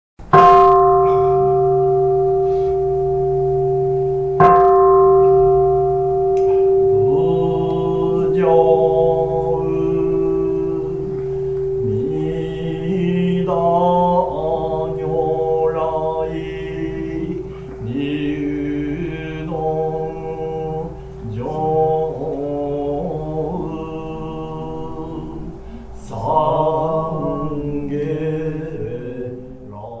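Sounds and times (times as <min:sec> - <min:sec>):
steady held drone: 0:00.3 - 0:30.0
voice chanting: 0:00.3 - 0:30.0.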